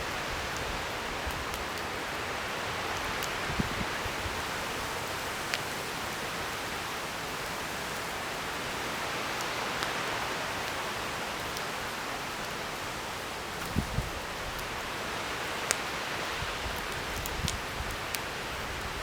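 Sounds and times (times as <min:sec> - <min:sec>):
campfire hissing: 0:00.0 - 0:19.0
fire crackling and popping: 0:00.0 - 0:19.0.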